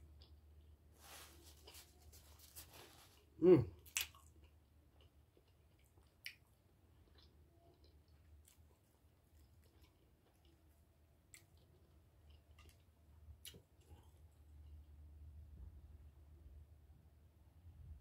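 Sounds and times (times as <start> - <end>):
faint low hum: 0.0 - 18.0
close-up chewing: 0.2 - 14.8.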